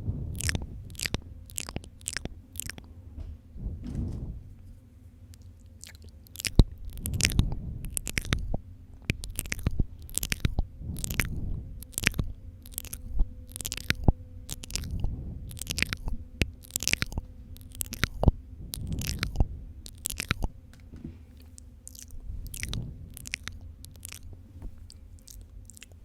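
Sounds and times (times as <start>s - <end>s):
wet mouth sounds: 0.3s - 2.9s, 5.3s - 20.6s, 21.3s - 26.0s.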